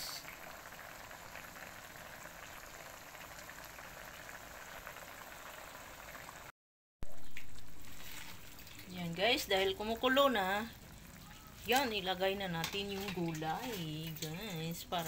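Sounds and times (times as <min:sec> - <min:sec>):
broth boiling in a wok: 0:00.0 - 0:15.0.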